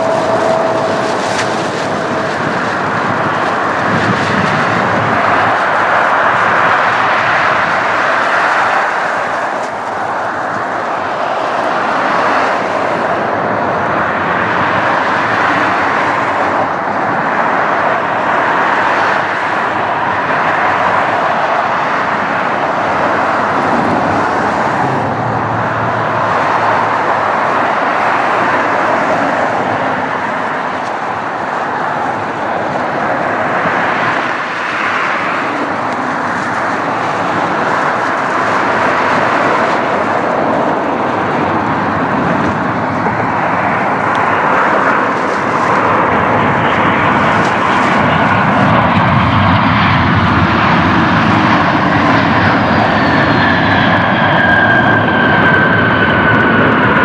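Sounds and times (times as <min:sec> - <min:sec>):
jet engines rushing: 0:00.0 - 0:57.0.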